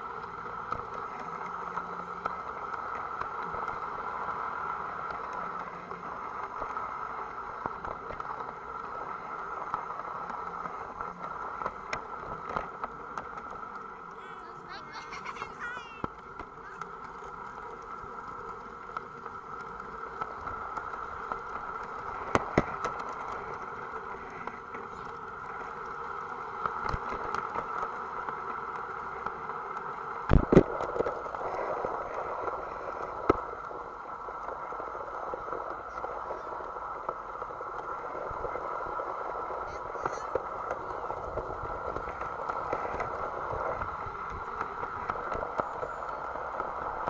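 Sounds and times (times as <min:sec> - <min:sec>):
model train running whine: 0:00.0 - 0:47.0
wheels rattling over rails: 0:00.0 - 0:47.0.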